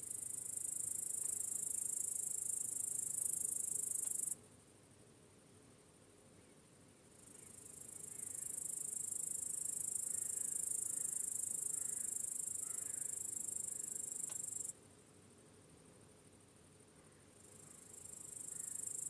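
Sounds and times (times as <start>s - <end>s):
faint cricket chorus: 0.0s - 19.0s.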